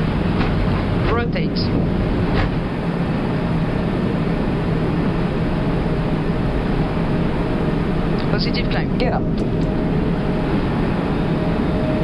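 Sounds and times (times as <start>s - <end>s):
airflow and jet engine noise: 0.0s - 12.0s
low hum: 0.0s - 12.0s.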